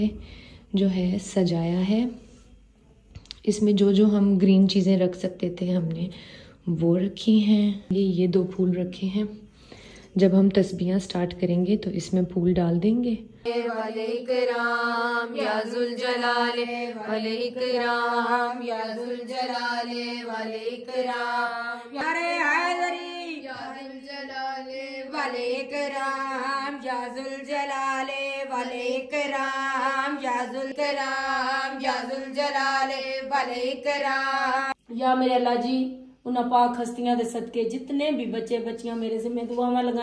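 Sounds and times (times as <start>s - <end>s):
woman chanting: 0.0s - 2.3s, 3.4s - 9.5s, 10.1s - 40.0s.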